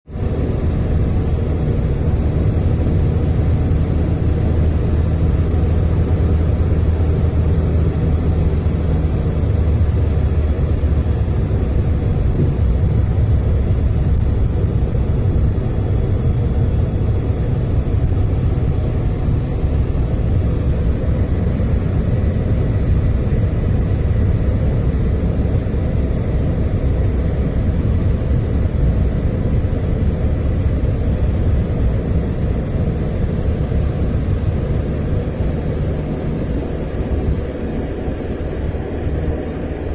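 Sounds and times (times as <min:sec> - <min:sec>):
car engine and tyre rumble: 0:00.0 - 0:39.9
faint engine hum: 0:00.1 - 0:39.9.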